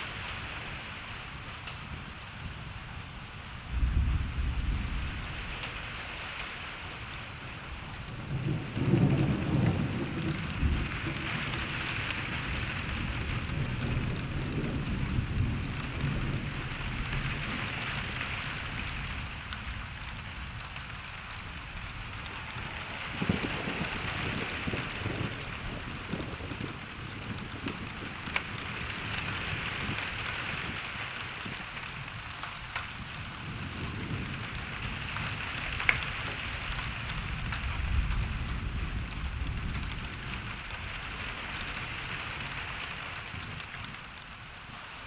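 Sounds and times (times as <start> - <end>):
steady rain: 0.0 - 45.0
rolling thunder: 3.4 - 44.0.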